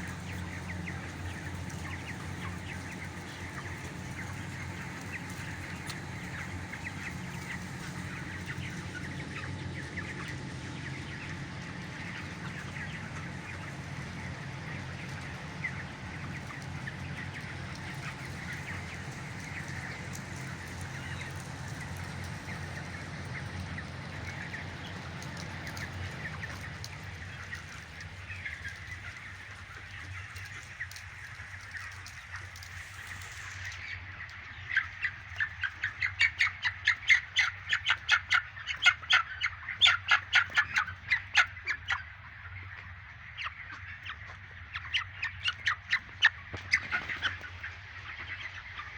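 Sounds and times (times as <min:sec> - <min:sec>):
chicks cheeping: 0:00.0 - 0:48.9.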